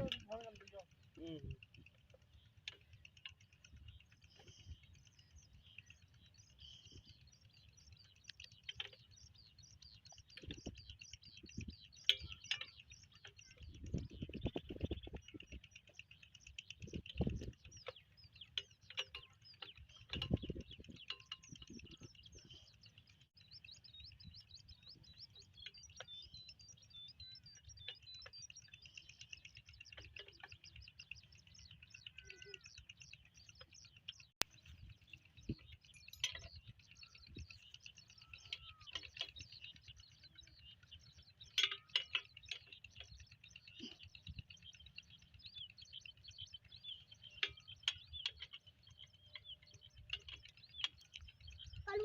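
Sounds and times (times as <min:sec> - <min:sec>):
birds chirping and chattering: 0:00.0 - 0:52.0.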